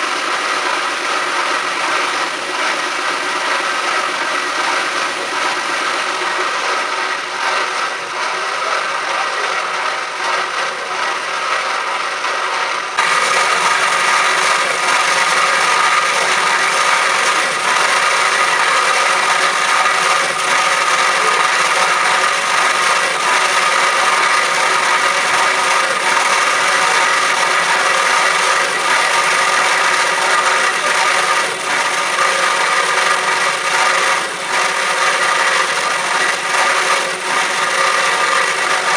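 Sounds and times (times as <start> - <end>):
band saw cutting metal: 0.0 - 38.9.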